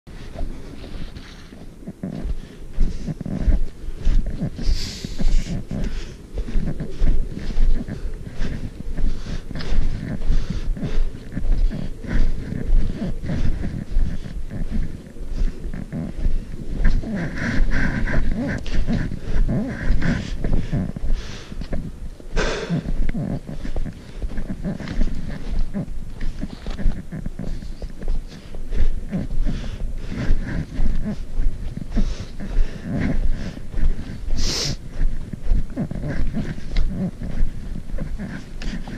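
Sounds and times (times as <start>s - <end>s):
footsteps crunching in snow: 0.1s - 38.9s
heavy breathing: 0.1s - 38.9s.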